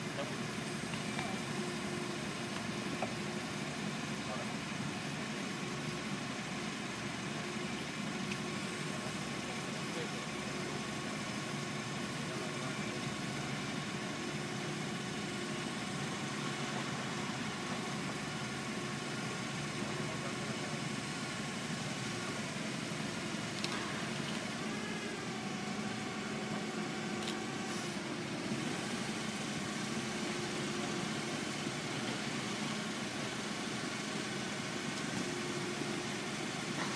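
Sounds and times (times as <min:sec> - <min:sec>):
forklift engine idling: 0:00.0 - 0:36.9.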